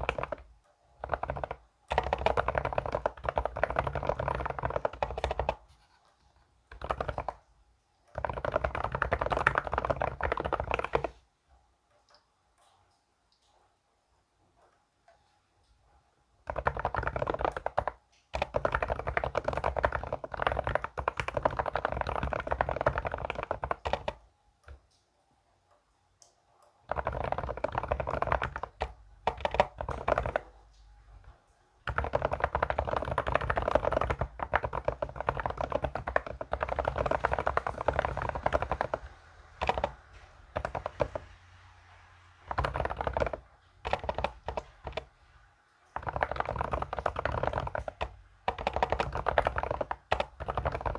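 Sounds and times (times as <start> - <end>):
fast typing on keyboard: 0.0 - 6.0, 6.7 - 11.2, 16.4 - 24.8, 26.8 - 50.9.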